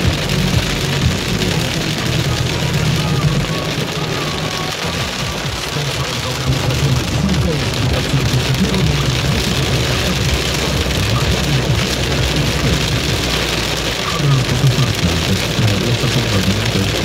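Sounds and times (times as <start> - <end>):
car running noise: 0.0 - 17.0
heavy rain drumming on car roof: 0.0 - 17.0.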